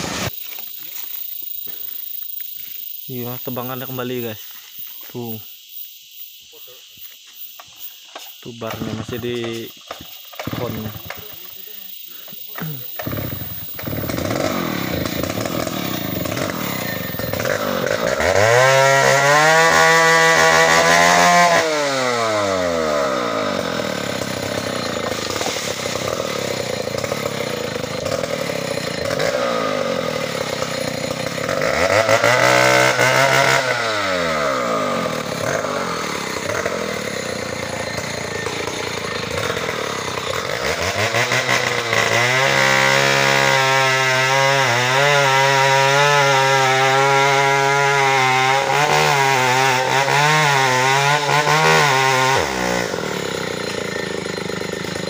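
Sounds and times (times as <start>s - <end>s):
chainsaw revving and cutting: 0.0s - 5.3s, 8.2s - 55.0s.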